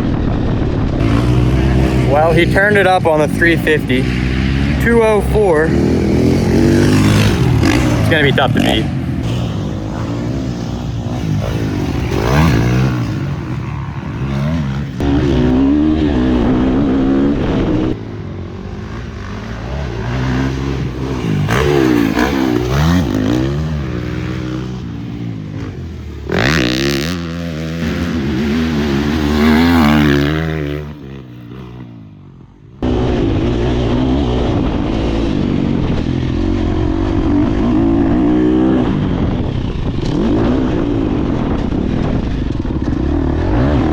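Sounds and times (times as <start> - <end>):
motocross bike engine revving: 0.5 - 43.9.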